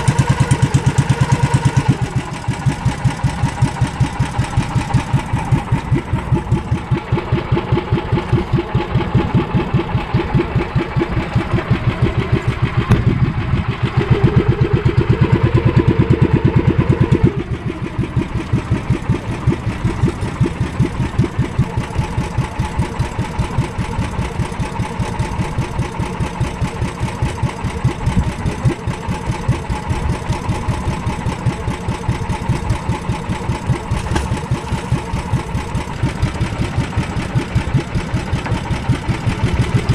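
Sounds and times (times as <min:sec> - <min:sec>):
boat engine chugging: 0:00.0 - 0:39.9.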